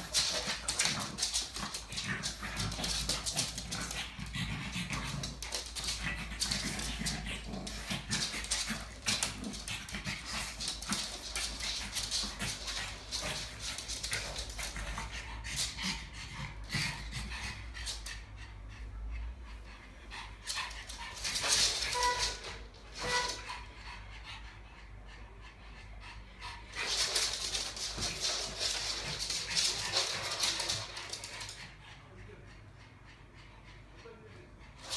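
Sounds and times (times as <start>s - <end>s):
dogs panting: 0.0s - 34.9s.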